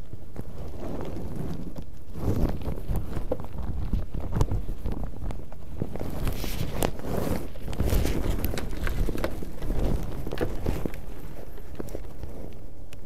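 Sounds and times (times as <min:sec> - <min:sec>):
clothing rubbing on microphone: 0:00.0 - 0:13.0
rustling: 0:00.0 - 0:13.0.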